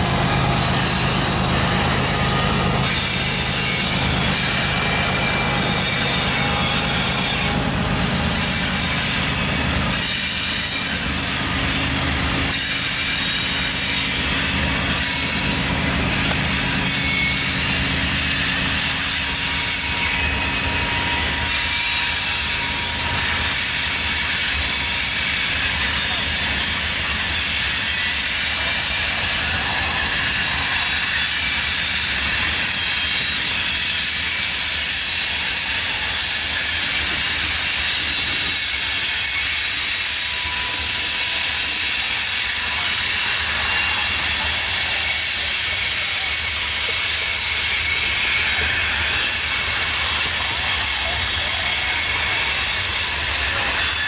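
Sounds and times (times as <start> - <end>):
freight train rolling past: 0.0 - 54.0
wheel squeal: 0.0 - 54.0.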